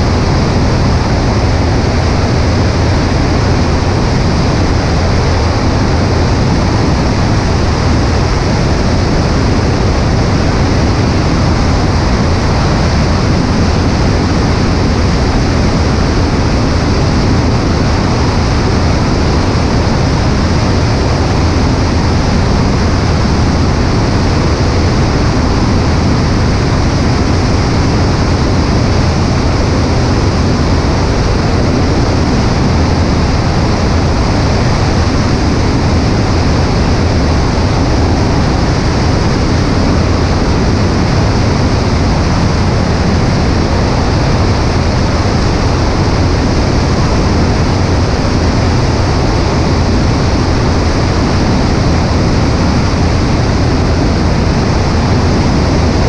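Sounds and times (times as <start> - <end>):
propeller engine drone: 0.0 - 56.0
wind rushing over microphone: 0.0 - 56.0.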